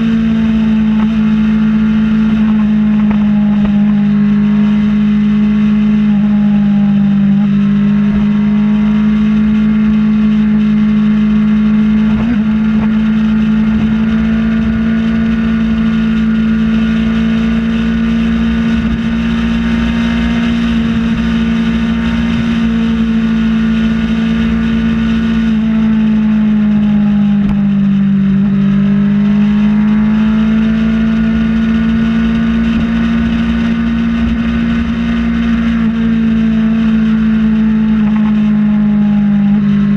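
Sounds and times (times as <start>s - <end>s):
low rumbling wind noise: 0.0s - 39.9s
motorcycle engine cruising: 0.0s - 39.9s.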